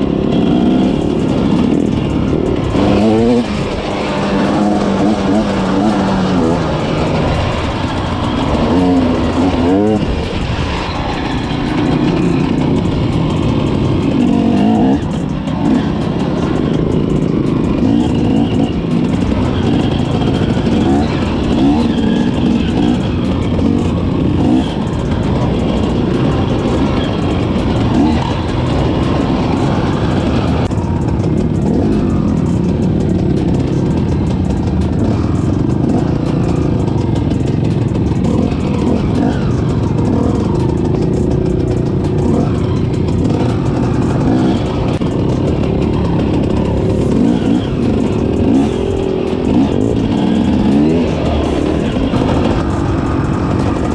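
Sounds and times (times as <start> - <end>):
off-road vehicle engine running: 0.0 - 53.9.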